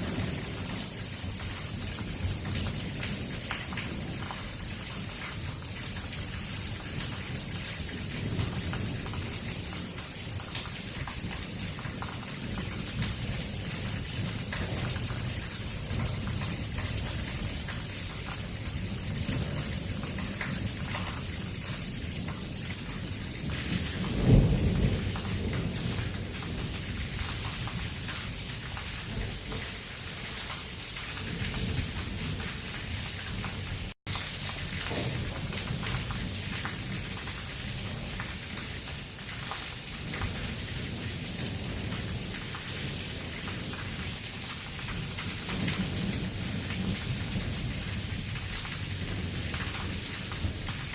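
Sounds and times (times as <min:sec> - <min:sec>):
heavy rain pouring: 0:00.0 - 0:50.9
thunderclap and rumble: 0:00.0 - 0:50.9.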